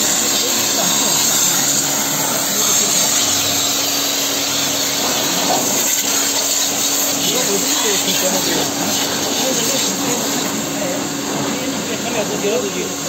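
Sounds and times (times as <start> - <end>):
pressure washer pump hum: 0.0 - 13.0
water jet spraying: 0.0 - 13.0.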